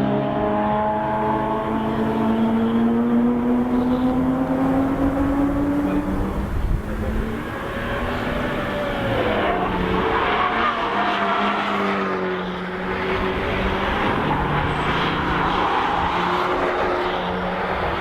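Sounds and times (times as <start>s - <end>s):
race cars revving past: 0.0s - 18.0s.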